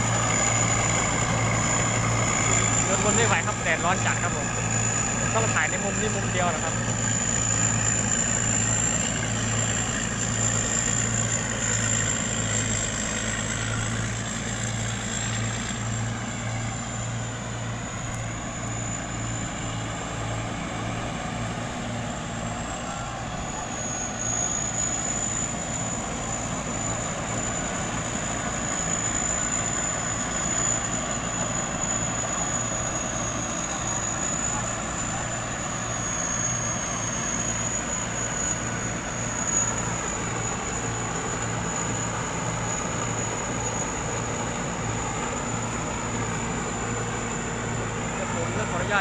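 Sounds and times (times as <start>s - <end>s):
combine harvester diesel hum: 0.0s - 49.0s
high-pitched machinery whine: 0.0s - 49.0s.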